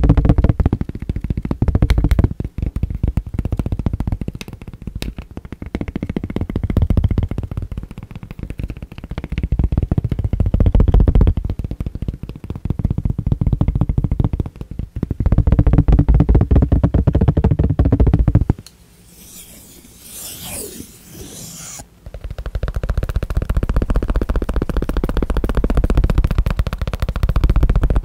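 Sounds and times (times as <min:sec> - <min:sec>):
rapid fingertip tapping: 0:00.0 - 0:18.6, 0:22.2 - 0:28.0.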